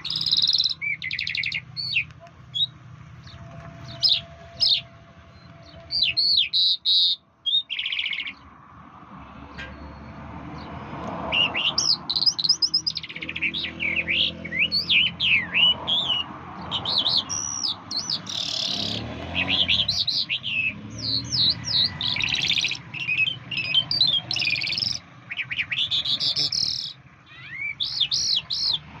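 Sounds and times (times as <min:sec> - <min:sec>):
songbird singing chirps and trills: 0:00.0 - 0:08.6, 0:09.5 - 0:29.0.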